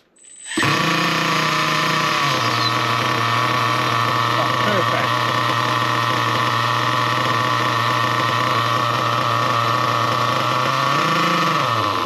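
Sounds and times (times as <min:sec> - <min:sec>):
model car engine idling: 0:00.5 - 0:12.0.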